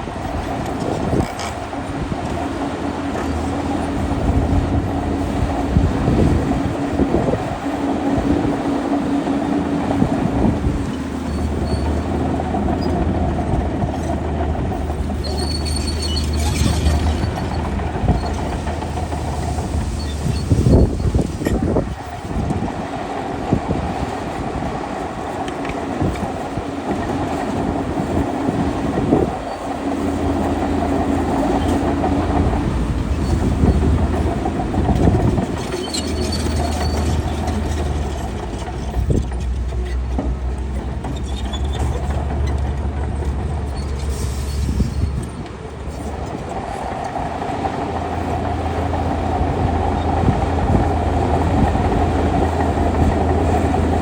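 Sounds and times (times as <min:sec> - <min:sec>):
bulldozer diesel engine: 0:00.0 - 0:54.0
steel tracks clanking: 0:00.0 - 0:54.0.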